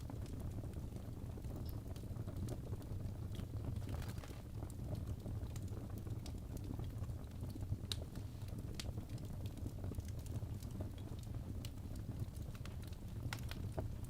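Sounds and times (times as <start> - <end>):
fire burning in fireplace: 0.0 - 14.0
fire crackling and popping: 0.0 - 14.0.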